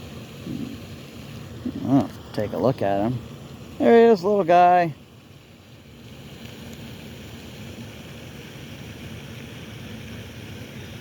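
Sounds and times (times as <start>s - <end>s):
rain falling: 0.0s - 9.2s.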